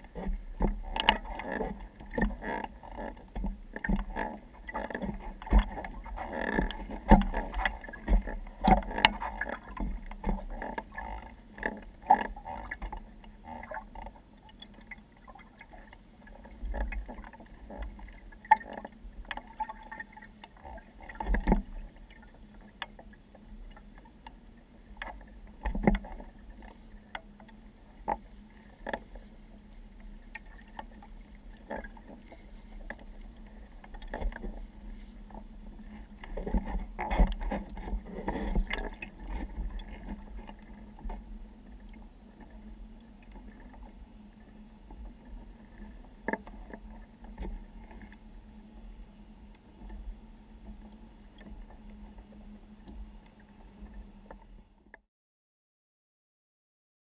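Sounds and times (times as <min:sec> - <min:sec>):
water lapping against kayak hull: 0:00.0 - 0:54.9
faint low hum: 0:00.0 - 0:55.0.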